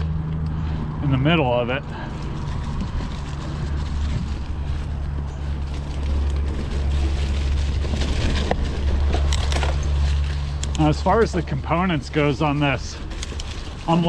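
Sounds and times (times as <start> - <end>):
bike tyre and trail noise: 0.0 - 14.0.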